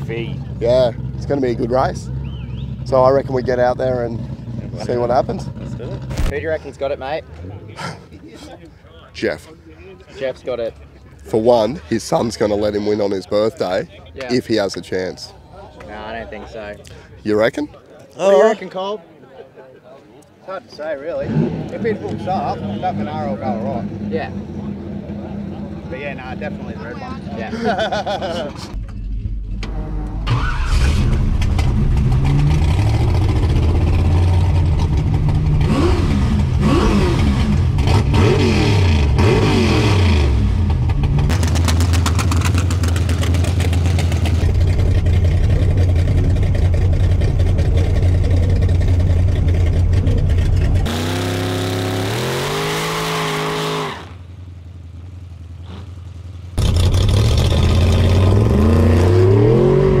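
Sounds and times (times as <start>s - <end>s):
race car engines revving: 0.0s - 15.6s, 20.8s - 60.0s.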